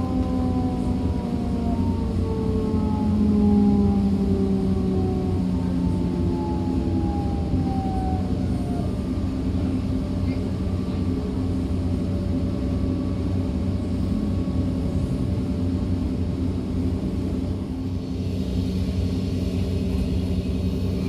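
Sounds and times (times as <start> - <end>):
train running gear rumble: 0.0 - 21.0.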